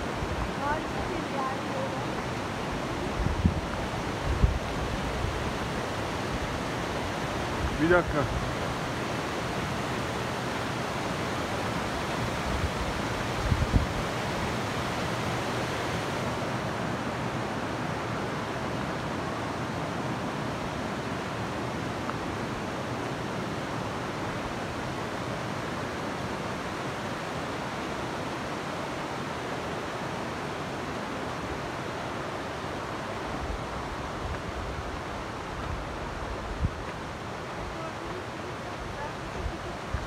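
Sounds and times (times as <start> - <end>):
stream water rushing over rocks: 0.0 - 40.0.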